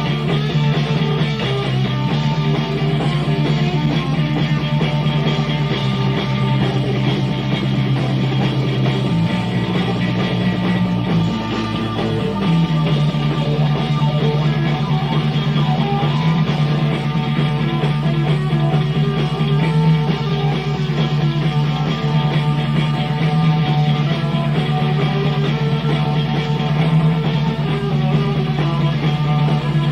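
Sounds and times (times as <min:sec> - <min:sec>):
bass line of low notes: 0:00.0 - 0:29.9
electric guitar: 0:00.0 - 0:29.9.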